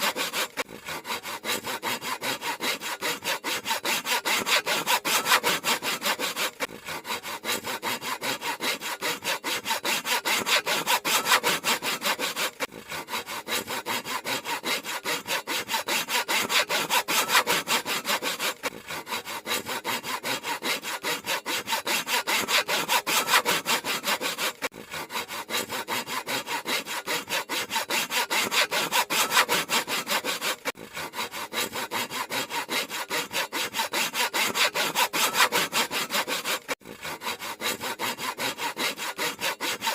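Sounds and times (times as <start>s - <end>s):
handsaw cutting wood: 0.0s - 39.9s.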